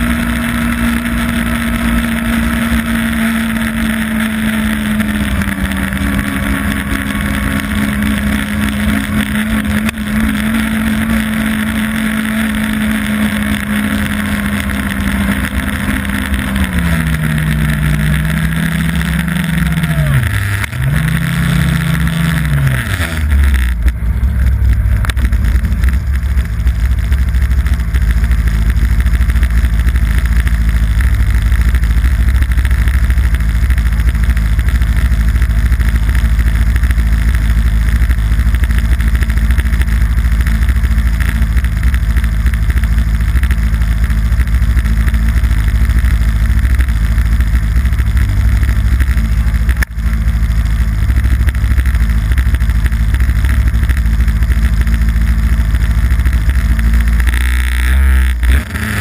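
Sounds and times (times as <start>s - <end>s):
snowmobile engine cruising: 0.0s - 59.0s.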